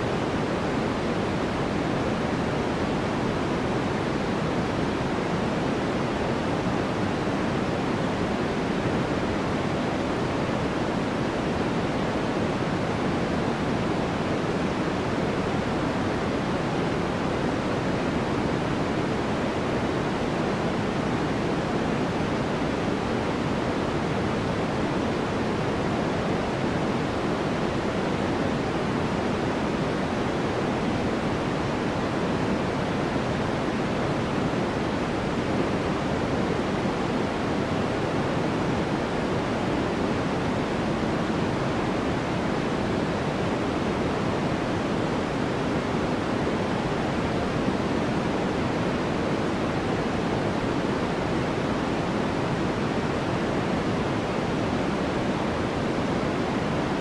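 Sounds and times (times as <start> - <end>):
steady synthetic noise hiss: 0.0 - 57.0.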